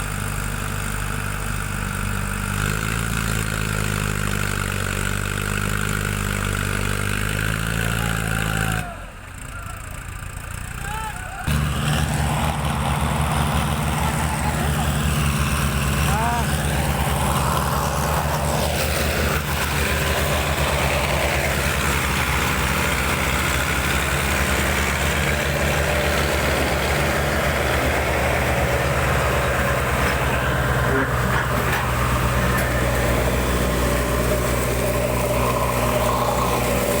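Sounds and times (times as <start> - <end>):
diesel engine running at low revs: 0.0 - 37.0.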